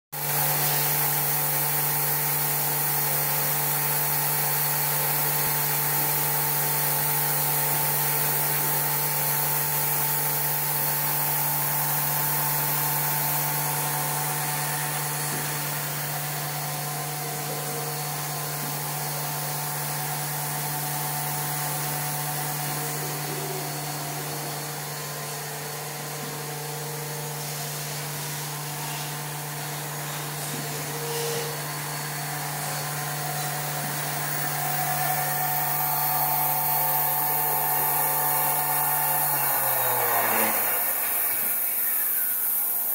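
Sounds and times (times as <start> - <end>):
steady machine hum: 0.2 - 42.9.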